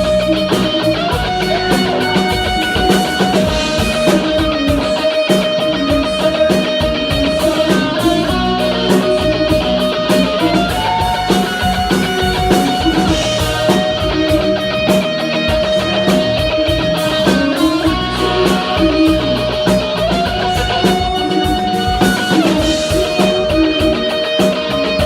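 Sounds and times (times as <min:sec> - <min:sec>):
drum kit beat: 0:00.0 - 0:25.0
electric guitar: 0:00.0 - 0:25.0.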